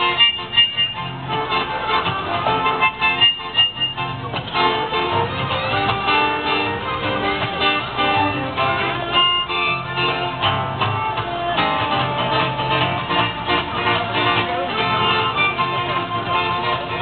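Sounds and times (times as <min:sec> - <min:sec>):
fiddle: 0:00.0 - 0:17.0
plucked guitar: 0:00.0 - 0:17.0.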